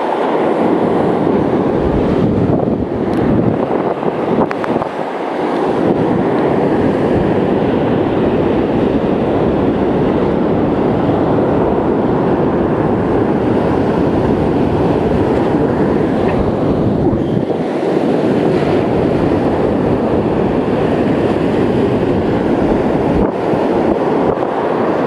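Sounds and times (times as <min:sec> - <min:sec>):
surf on beach: 0:00.0 - 0:25.0
wind buffeting microphone: 0:00.0 - 0:25.0.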